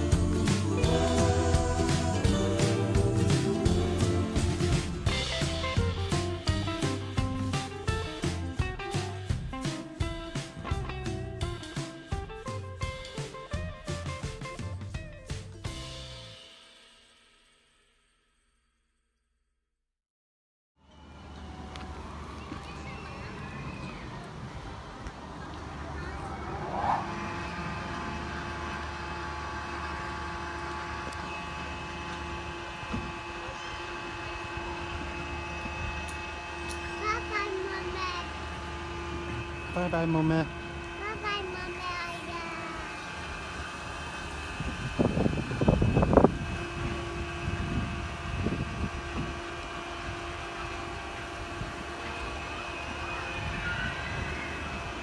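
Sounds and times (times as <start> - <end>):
ride machinery humming: 0.0 - 15.0, 20.8 - 55.0.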